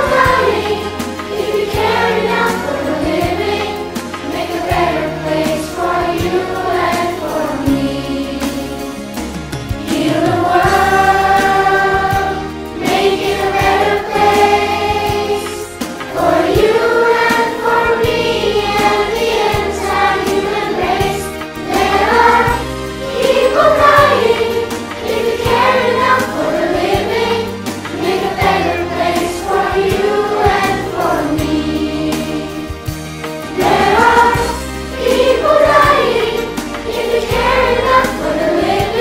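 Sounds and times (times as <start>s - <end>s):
choir singing in unison: 0.0s - 9.1s, 9.8s - 39.0s
instrumental backing track: 0.0s - 39.0s.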